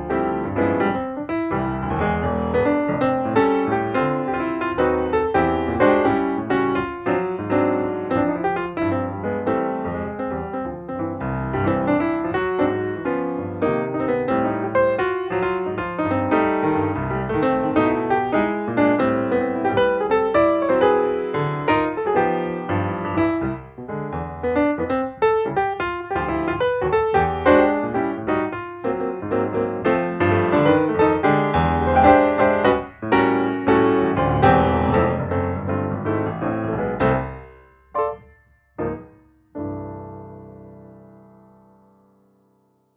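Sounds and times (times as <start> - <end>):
piano music over bass line: 0.0 - 42.9.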